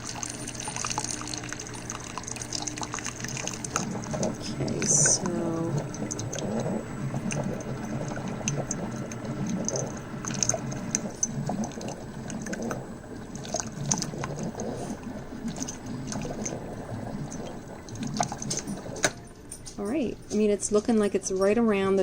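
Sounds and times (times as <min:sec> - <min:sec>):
coffee maker spitting and clicking: 0:00.0 - 0:19.2
coffee maker dispensing water: 0:00.0 - 0:19.4.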